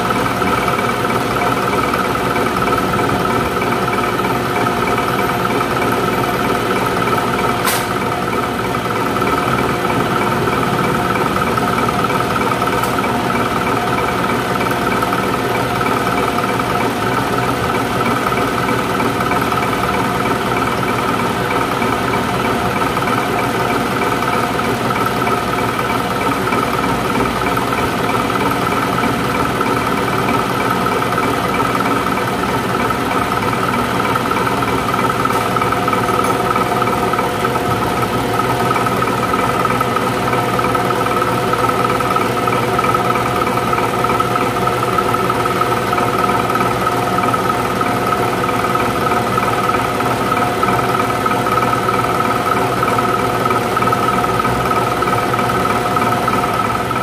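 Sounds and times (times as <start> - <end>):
injection pump test bench running: 0.0 - 57.0.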